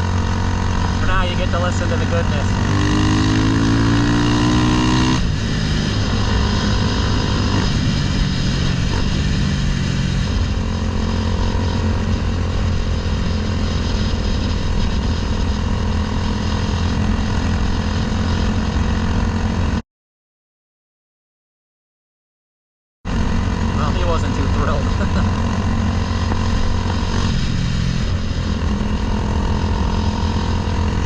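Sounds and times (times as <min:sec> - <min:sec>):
motorcycle engine accelerating: 0:00.0 - 0:19.8, 0:23.1 - 0:31.0.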